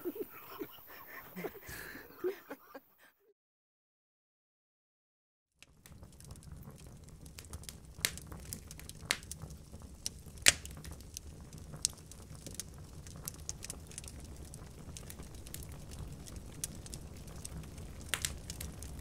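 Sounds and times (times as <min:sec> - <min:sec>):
fire crackling and popping: 0:00.1 - 0:02.4, 0:05.5 - 0:19.0.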